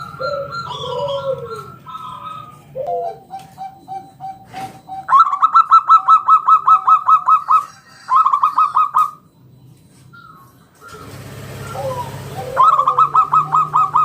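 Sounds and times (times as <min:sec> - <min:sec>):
dove cooing: 0:00.0 - 0:09.4, 0:10.0 - 0:14.0.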